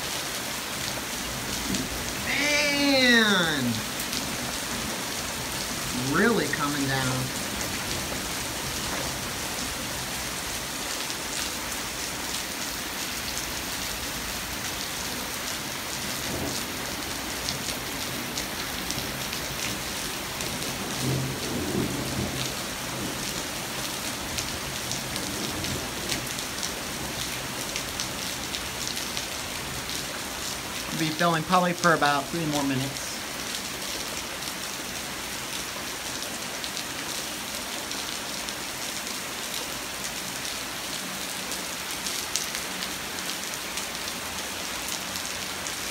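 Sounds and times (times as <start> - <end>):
heavy rain splattering: 0.0 - 45.9.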